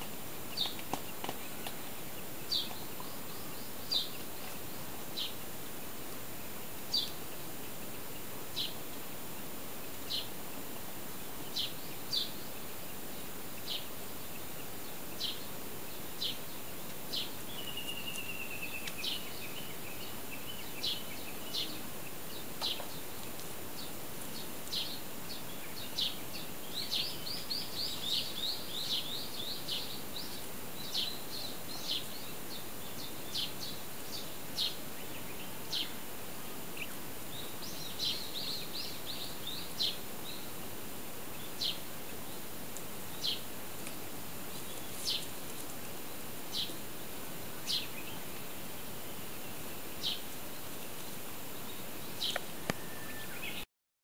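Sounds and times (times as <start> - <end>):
steady background hiss: 0.0 - 53.7
wild birds chirping: 0.0 - 53.7.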